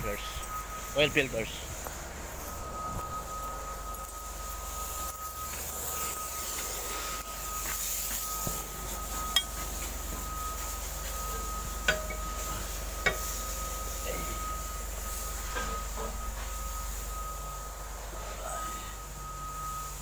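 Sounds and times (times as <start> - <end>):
mechanical hum with high whine: 0.0 - 20.0.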